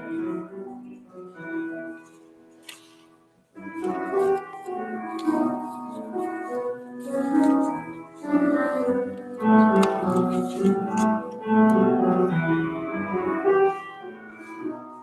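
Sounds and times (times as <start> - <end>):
organ music: 0.0 - 15.0.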